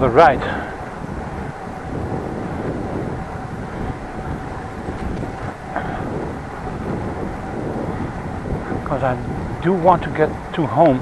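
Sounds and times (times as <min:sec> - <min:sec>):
bicycle tyre and road noise: 0:00.0 - 0:11.0
wind on microphone: 0:00.0 - 0:11.0.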